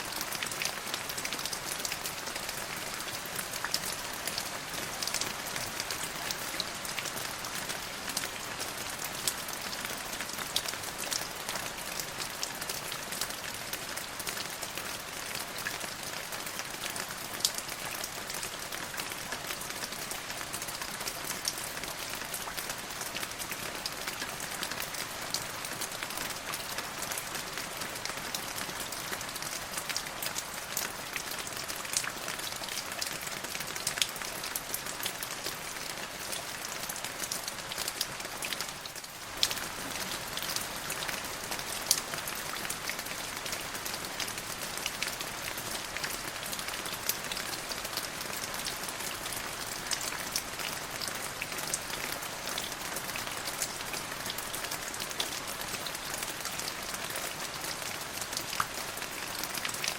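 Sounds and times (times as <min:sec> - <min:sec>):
rain on hard surface: 0:00.0 - 0:59.9.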